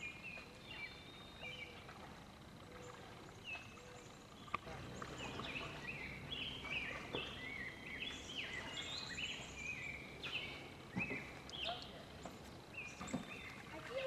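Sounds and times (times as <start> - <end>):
birds chirping: 0.0 - 14.0
kayak paddle splashing: 0.0 - 14.0.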